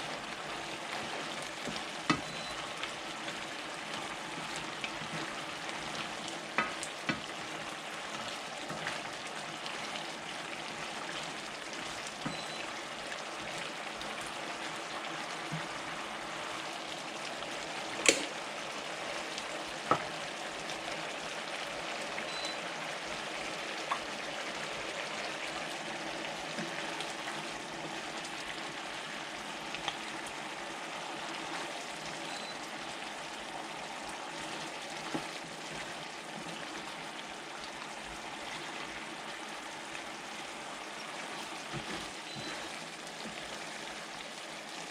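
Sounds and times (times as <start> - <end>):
sauce bubbling and sizzling: 0.0 - 44.9.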